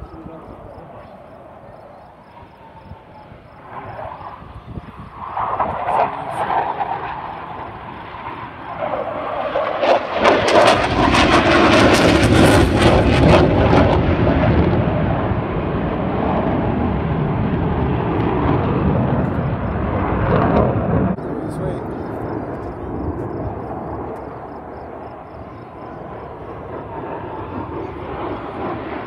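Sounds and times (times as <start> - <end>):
jets passing low overhead: 0.0 - 29.0.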